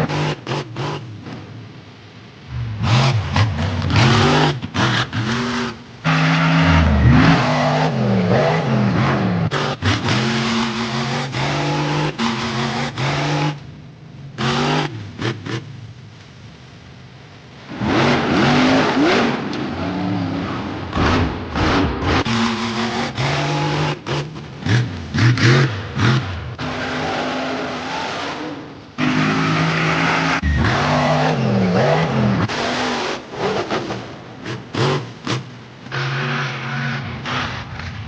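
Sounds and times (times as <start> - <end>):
monster truck engines revving: 0.0 - 16.0, 17.4 - 38.0.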